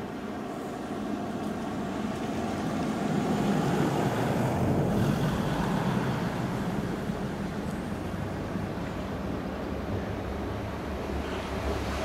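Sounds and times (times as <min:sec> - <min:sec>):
locomotive engine drone: 0:00.0 - 0:12.0
wind rumble on microphone: 0:00.0 - 0:12.0.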